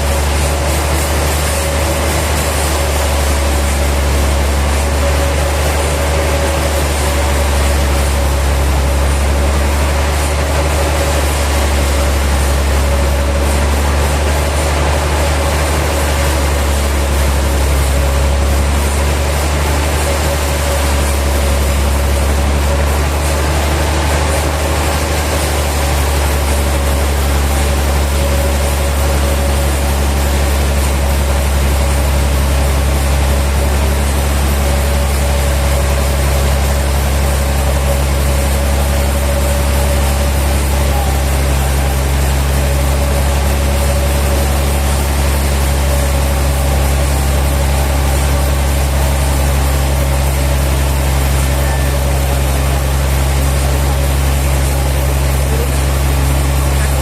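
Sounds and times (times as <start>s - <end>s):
machinery engine drone: 0.0s - 57.0s.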